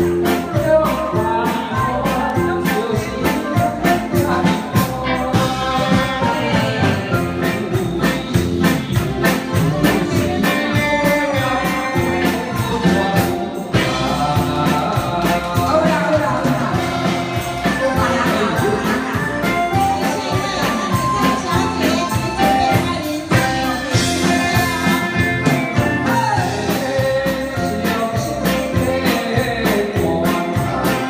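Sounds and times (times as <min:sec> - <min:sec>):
live band playing: 0:00.0 - 0:31.0
man and women singing: 0:00.0 - 0:31.0.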